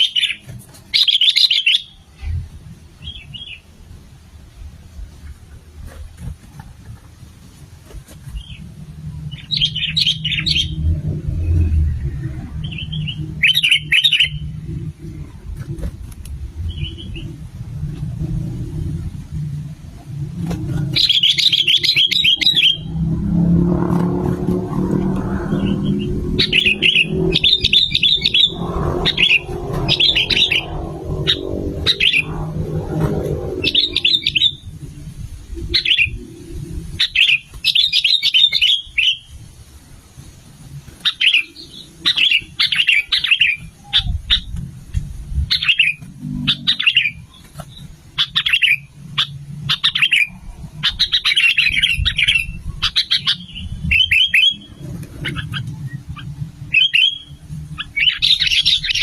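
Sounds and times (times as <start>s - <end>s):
bulbuls chirping: 0.0s - 3.8s, 8.1s - 39.4s, 40.8s - 44.7s, 45.3s - 59.0s
low background rumble: 0.0s - 59.0s.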